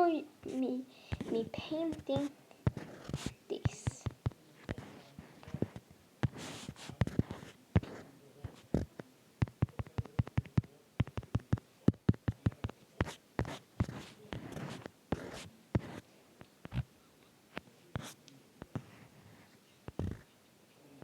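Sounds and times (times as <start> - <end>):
scratchy drawing strokes: 0.4 - 16.0, 17.9 - 20.3
pencil tapping on paper: 0.5 - 16.0, 16.6 - 16.9, 17.6 - 19.0, 19.9 - 20.2.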